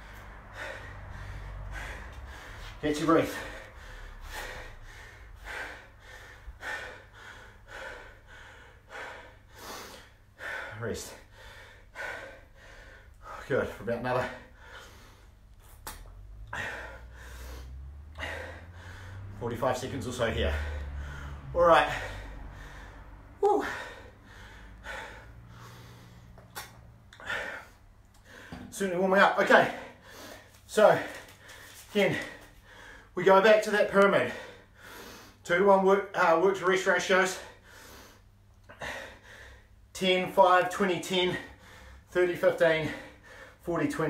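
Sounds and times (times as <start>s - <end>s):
man breathing hard: 0.0s - 28.8s, 29.5s - 33.2s, 34.2s - 35.5s, 37.3s - 40.0s, 41.0s - 43.7s.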